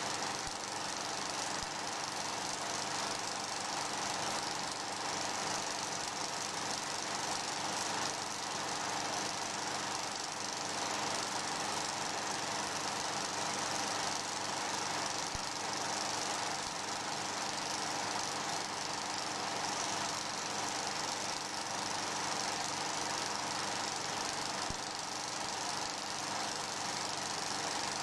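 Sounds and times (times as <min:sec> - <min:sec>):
film projector running: 0:00.0 - 0:28.0.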